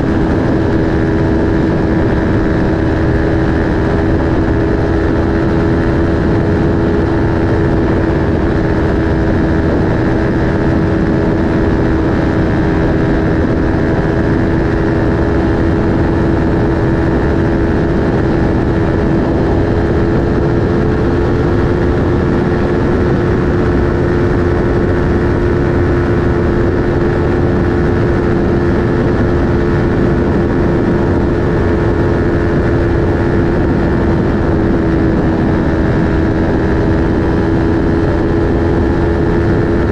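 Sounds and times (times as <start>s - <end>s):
motorcycle engine at speed: 0.0s - 39.9s
road noise: 0.0s - 39.9s.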